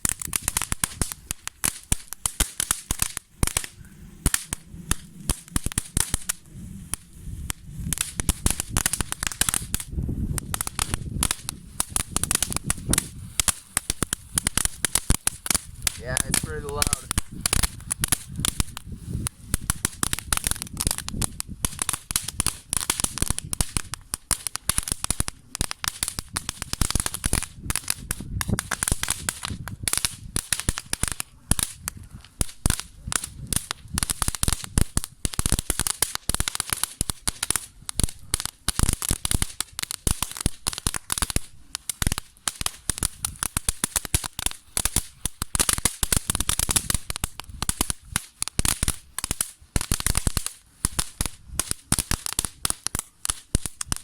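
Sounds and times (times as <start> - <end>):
firework fountain crackling: 0.0 - 54.0
firework fountain hissing: 0.0 - 54.0.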